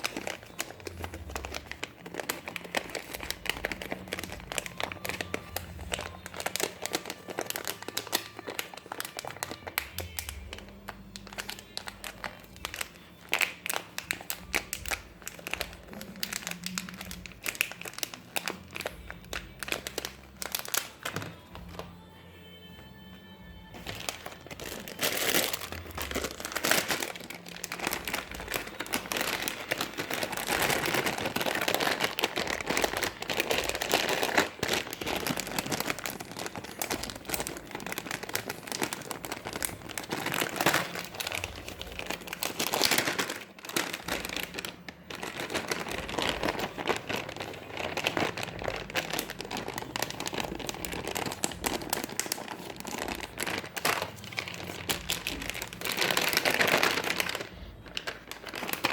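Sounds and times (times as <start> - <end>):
packaging crinkling: 0.0 - 22.1, 23.4 - 58.9.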